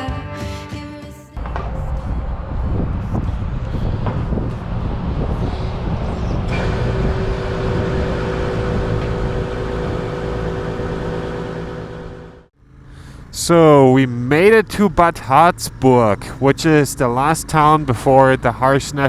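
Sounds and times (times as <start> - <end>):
motorcycle engine running: 1.4 - 19.0
road and wind rumble: 1.4 - 19.0.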